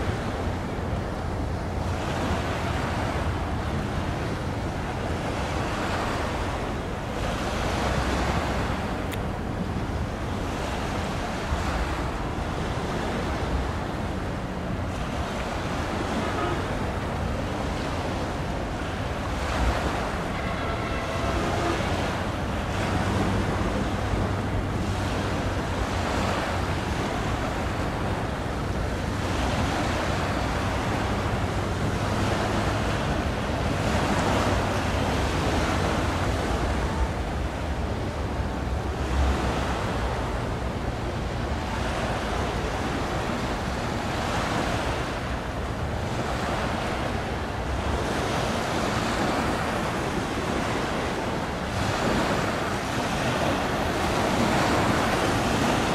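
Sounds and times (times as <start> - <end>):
sea water washing: 0.0 - 55.9.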